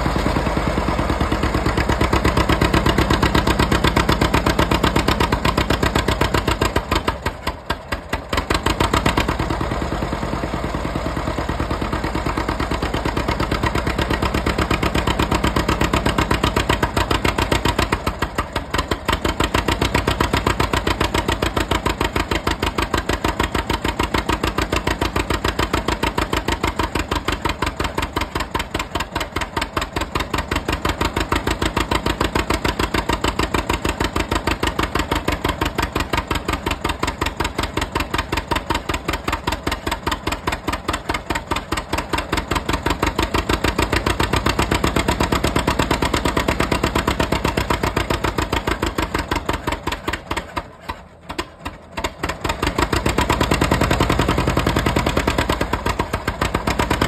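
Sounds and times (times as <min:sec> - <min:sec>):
two-cylinder engine running under load: 0:00.0 - 0:57.0.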